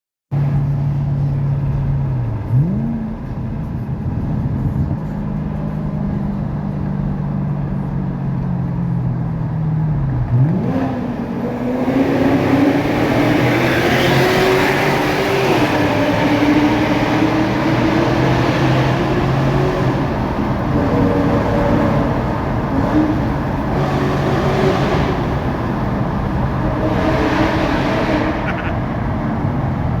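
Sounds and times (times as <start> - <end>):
car engine echoing in tunnel: 0.4 - 30.0.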